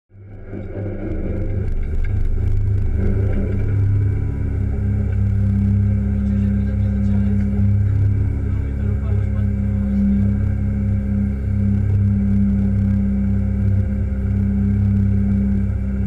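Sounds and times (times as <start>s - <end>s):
car engine idling: 0.1s - 16.0s.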